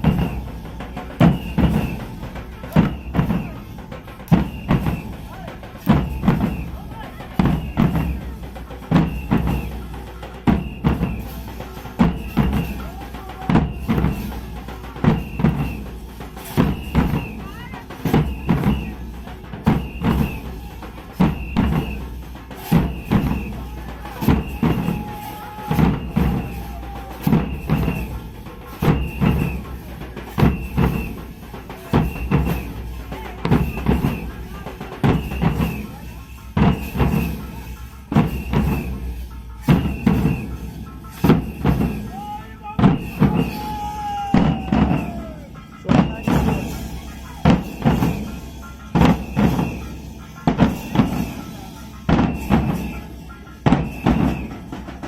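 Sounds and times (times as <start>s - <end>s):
barrel drum beaten with sticks: 0.0s - 55.0s.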